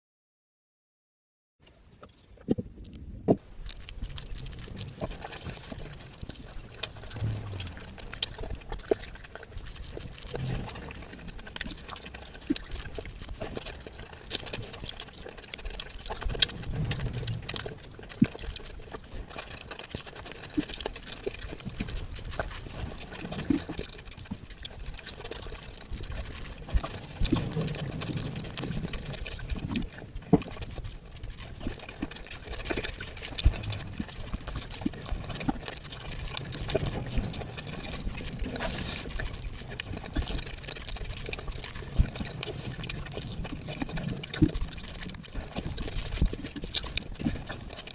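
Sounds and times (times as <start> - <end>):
person chewing food: 2.0 - 47.9
wet mouth clicks and smacks: 2.4 - 47.9.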